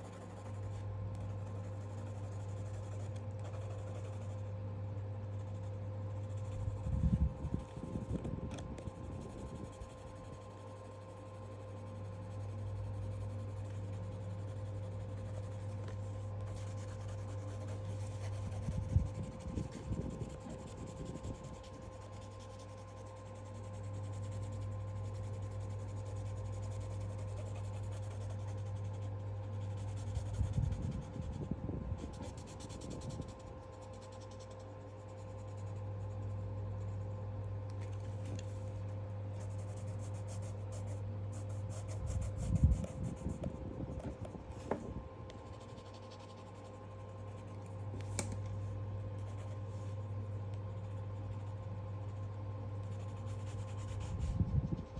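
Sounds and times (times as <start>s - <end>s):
pencil scratching on paper: 0.0s - 4.6s, 5.2s - 7.0s, 7.6s - 31.4s, 32.0s - 37.1s, 37.8s - 44.8s, 45.5s - 48.3s, 50.7s - 54.9s
steady low hum: 0.0s - 54.9s.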